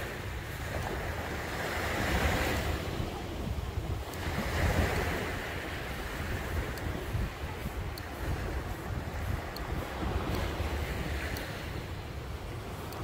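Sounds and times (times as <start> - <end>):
sea waves washing onto beach: 0.0 - 13.0
wind rumbling on microphone: 0.0 - 13.0.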